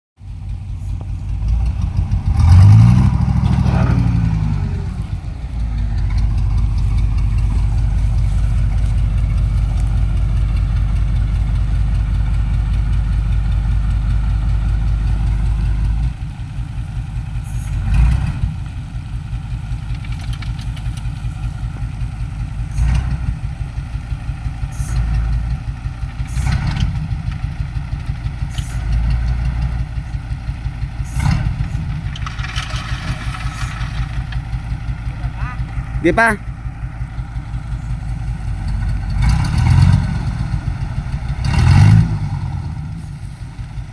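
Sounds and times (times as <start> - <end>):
vehicle engine revving: 0.2 - 19.0, 22.2 - 43.9
engine knock: 0.2 - 43.9.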